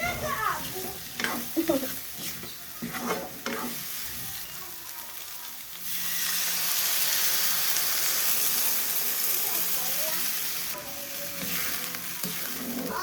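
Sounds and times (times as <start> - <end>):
food sizzling in a pan: 0.0 - 13.0
stirring in a pan: 0.0 - 13.0.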